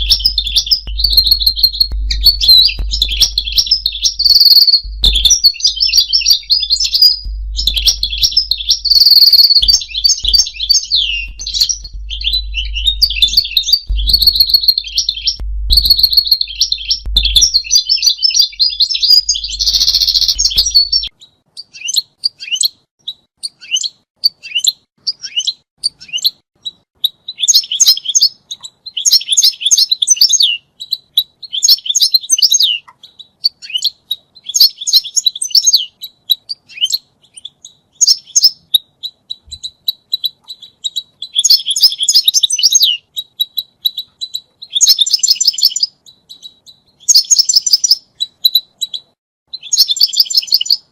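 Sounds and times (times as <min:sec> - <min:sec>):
goldfinch twittering song: 0:00.0 - 0:50.9.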